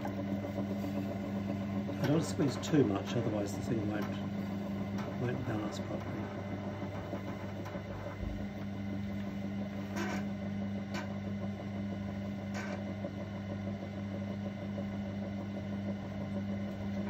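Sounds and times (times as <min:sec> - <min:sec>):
potter's wheel motor humming: 0:00.0 - 0:17.0.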